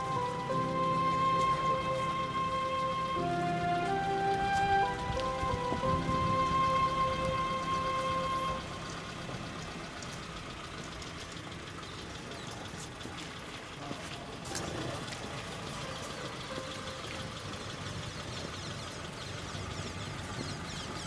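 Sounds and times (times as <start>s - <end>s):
jeep engine running at low speed: 0.0s - 21.0s.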